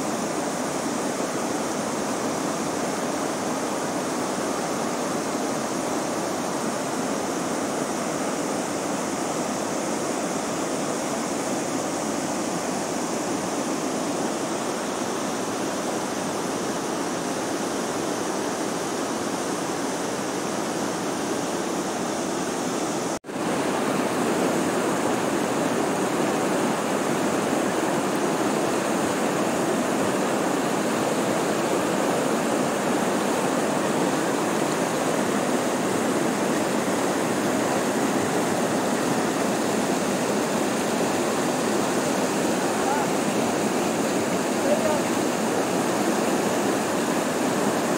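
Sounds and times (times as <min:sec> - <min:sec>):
white water rushing over rocks: 0:00.0 - 0:47.9.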